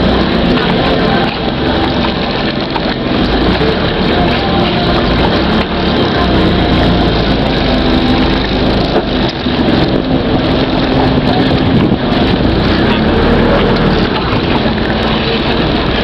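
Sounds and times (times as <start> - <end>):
boat engine running: 0.0 - 16.0
dense rushing noise: 0.0 - 16.0.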